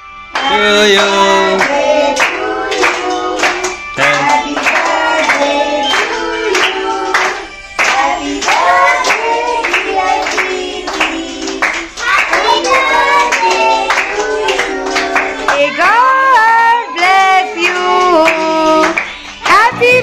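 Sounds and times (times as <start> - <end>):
children and woman singing: 0.3 - 20.0
people clapping: 0.3 - 20.0.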